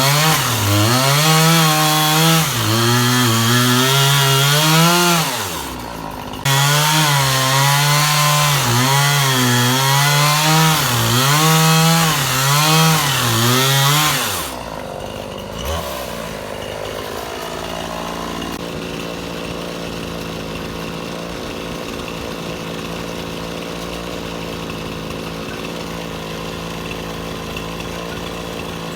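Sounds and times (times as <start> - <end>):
chainsaw cutting wood: 0.0 - 28.9.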